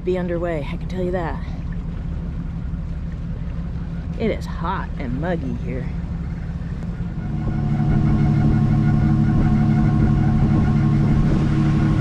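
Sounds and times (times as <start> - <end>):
boat diesel engine running: 0.0 - 12.0.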